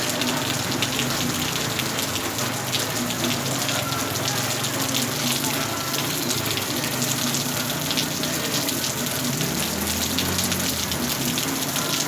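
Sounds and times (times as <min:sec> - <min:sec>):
heavy rain pouring: 0:00.0 - 0:12.0
water gushing: 0:00.0 - 0:12.0.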